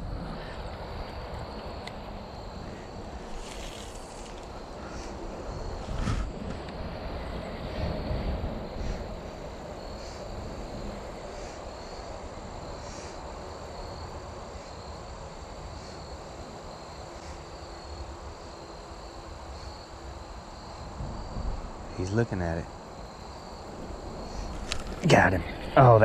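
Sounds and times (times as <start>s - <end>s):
insects trilling and chirping: 0.0s - 26.0s
wind: 0.0s - 26.0s.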